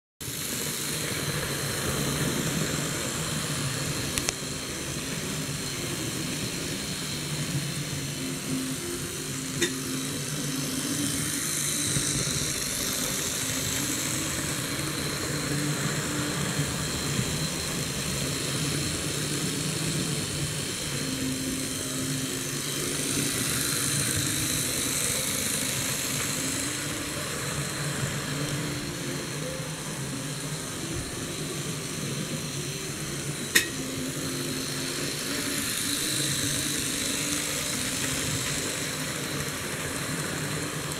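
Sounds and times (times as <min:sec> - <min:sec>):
model train motor whirring: 0:00.2 - 0:40.9
wheels rolling on rails: 0:00.2 - 0:40.9.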